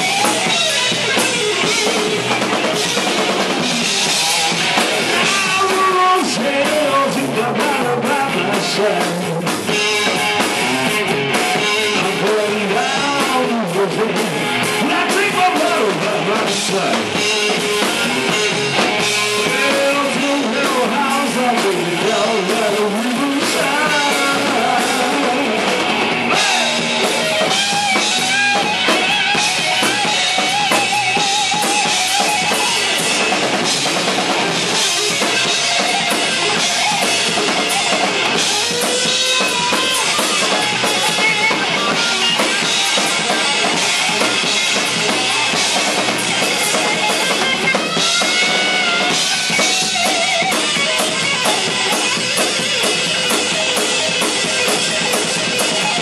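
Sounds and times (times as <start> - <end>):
bass guitar: 0.0 - 56.0
drum kit beat: 0.0 - 56.0
electric guitars: 0.0 - 56.0.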